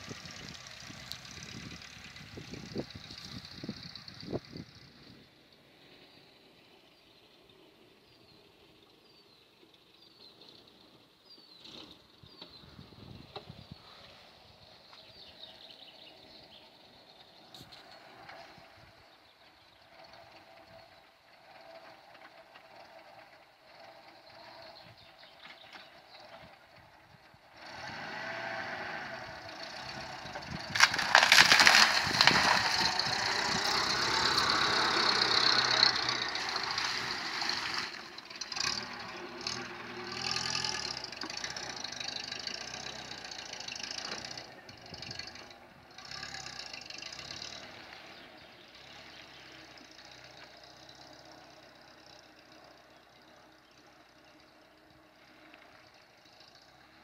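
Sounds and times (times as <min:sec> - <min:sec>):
van engine pulling hard: 0:00.0 - 0:57.0.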